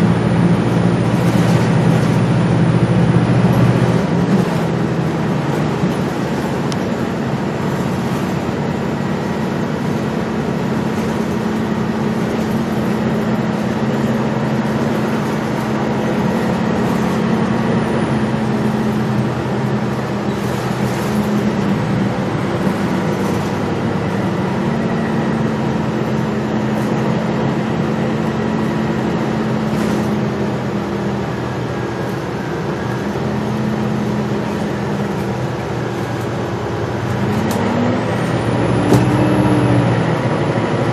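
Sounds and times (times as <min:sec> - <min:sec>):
bus engine hum: 0:00.0 - 0:40.9
road noise: 0:00.0 - 0:40.9.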